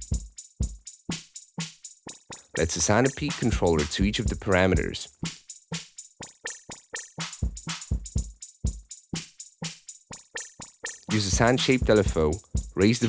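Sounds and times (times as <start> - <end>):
electronic drum machine loop: 0.0 - 13.0.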